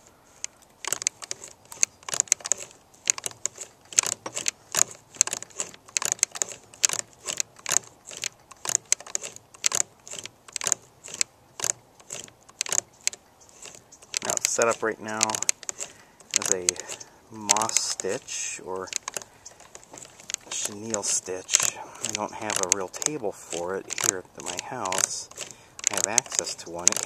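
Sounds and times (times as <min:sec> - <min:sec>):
sewing machine clicking and clacking: 0:00.9 - 0:27.0.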